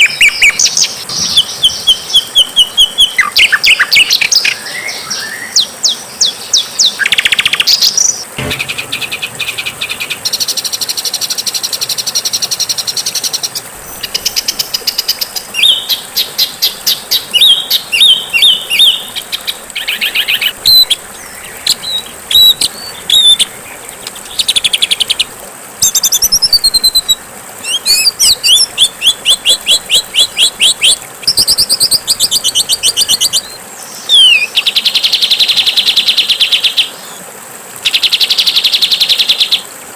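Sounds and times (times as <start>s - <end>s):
songbirds trilling and chirping: 0.0s - 39.6s.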